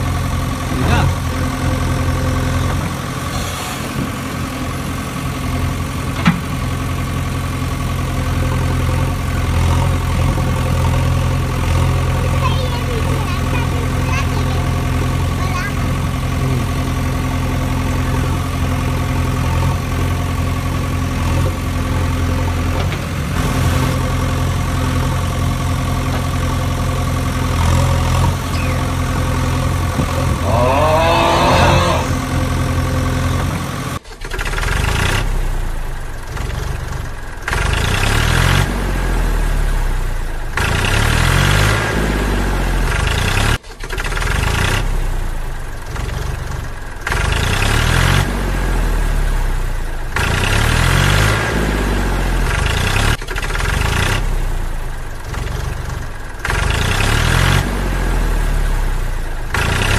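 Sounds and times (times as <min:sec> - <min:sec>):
heavy vehicle engine idling: 0:00.0 - 0:59.9
rough pulsing engine revving: 0:00.0 - 0:59.9.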